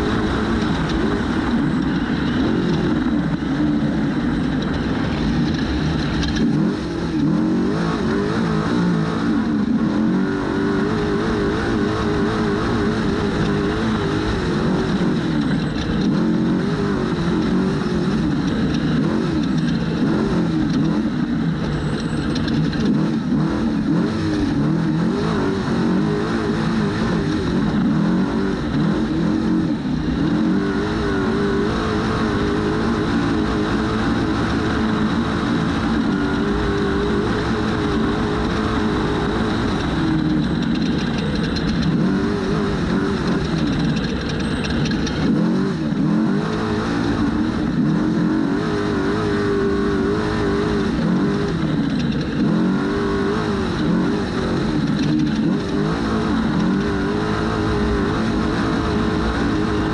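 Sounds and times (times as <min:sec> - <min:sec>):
rush of driving noise: 0:00.0 - 0:59.9
truck engine revving: 0:00.0 - 0:59.9.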